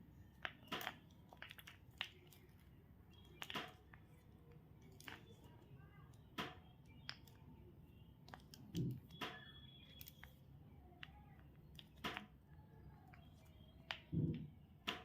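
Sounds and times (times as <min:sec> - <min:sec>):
packaging clicks and crinkles: 0:00.1 - 0:15.0.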